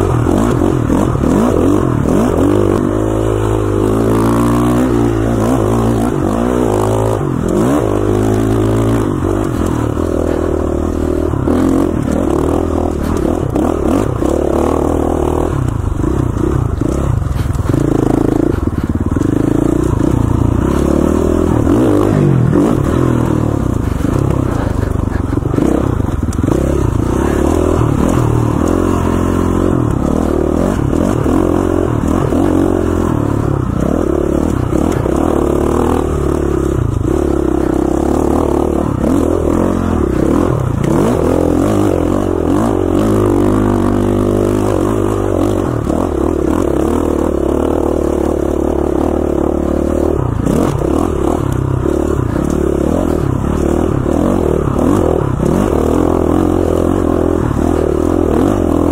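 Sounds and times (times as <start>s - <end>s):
dirt bike engine: 0.0s - 58.9s.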